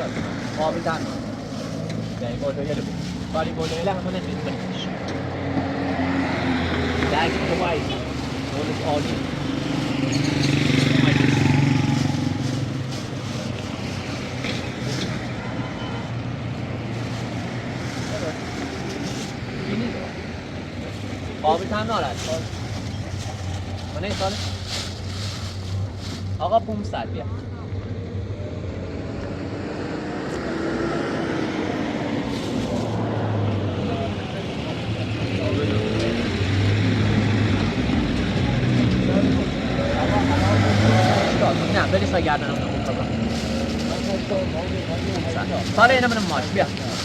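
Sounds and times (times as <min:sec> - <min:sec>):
vehicle engine running: 0:00.0 - 0:15.5, 0:16.2 - 0:29.3, 0:32.2 - 0:47.0
street traffic: 0:00.0 - 0:47.0.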